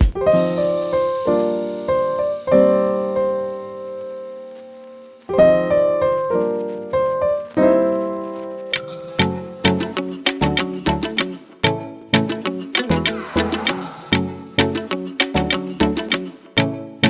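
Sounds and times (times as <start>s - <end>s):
piano chords and notes: 0.0s - 16.4s.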